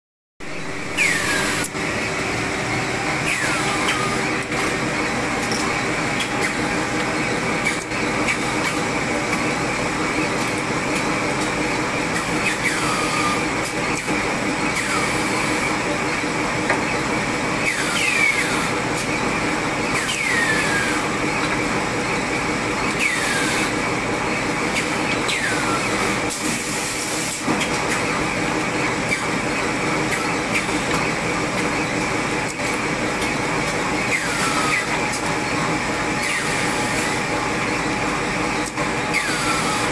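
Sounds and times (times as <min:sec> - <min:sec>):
machine clatter and hum: 0:00.4 - 0:39.9.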